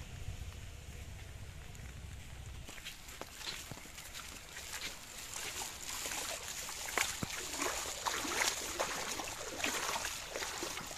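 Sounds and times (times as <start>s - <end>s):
water splashing and trickling: 1.7s - 10.9s.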